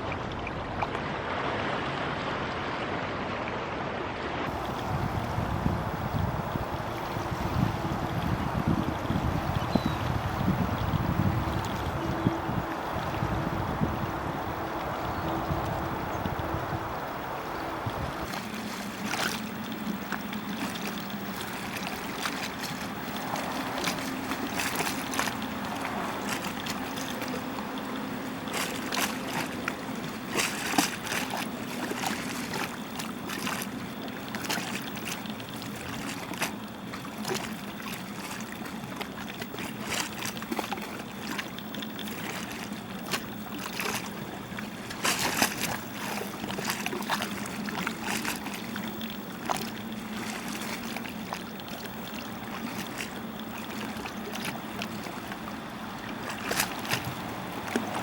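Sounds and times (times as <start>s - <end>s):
rush of moving water: 0.0s - 58.0s.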